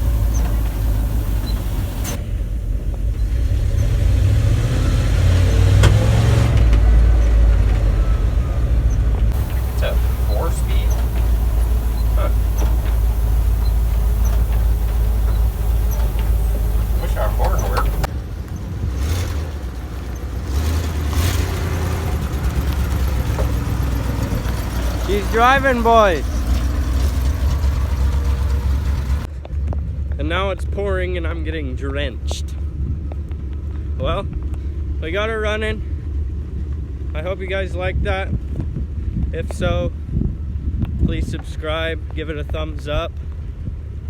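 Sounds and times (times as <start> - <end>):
truck engine rumbling: 0.0 - 39.2.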